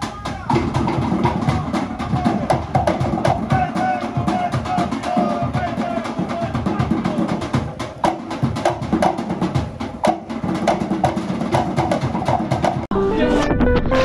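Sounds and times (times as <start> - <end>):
music with quick drum beat: 0.0 - 12.9.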